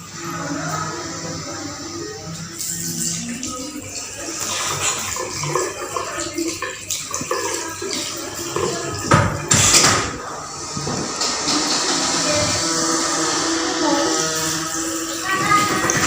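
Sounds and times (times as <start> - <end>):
tap water running into sink: 2.3 - 16.0.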